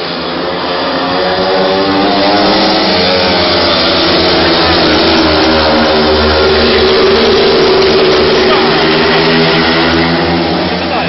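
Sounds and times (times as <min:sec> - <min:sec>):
motorcycles racing at full throttle: 0:00.0 - 0:11.0.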